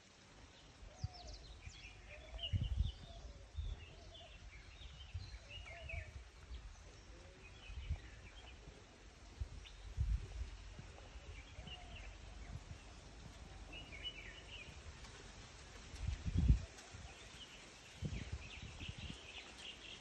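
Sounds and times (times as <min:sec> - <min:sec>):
birds chirping and twittering: 0:00.1 - 0:20.0.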